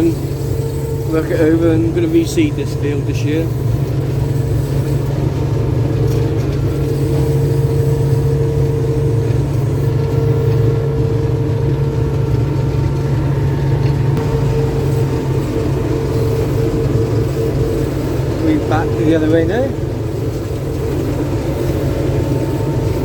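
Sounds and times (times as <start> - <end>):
combine harvester engine drone: 0.0 - 23.0
steady whine: 0.0 - 23.0.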